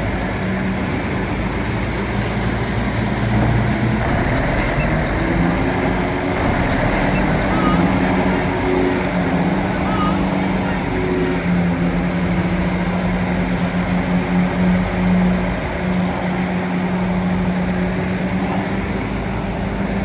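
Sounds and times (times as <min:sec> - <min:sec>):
bulldozer engine humming: 0:00.0 - 0:20.0.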